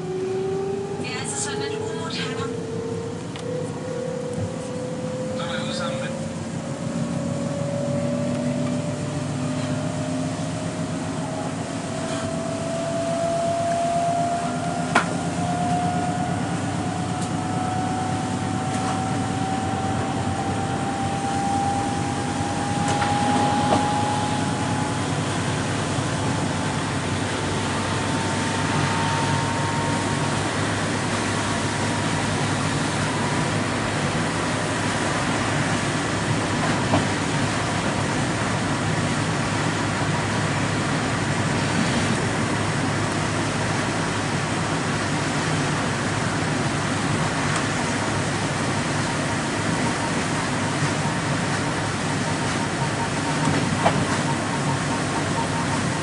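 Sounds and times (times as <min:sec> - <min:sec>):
train running rumble: 0:00.0 - 0:56.0.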